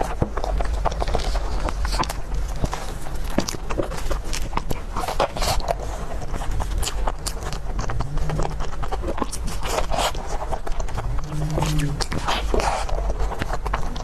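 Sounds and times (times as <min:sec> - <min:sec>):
chewing and crunching: 0:00.0 - 0:14.0
wet mouth sounds: 0:00.0 - 0:14.0.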